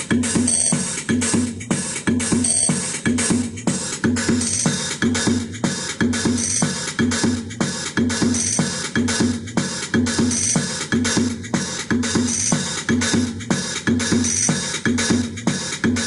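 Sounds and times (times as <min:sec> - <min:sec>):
bass-heavy electronic music: 0:00.0 - 0:16.0.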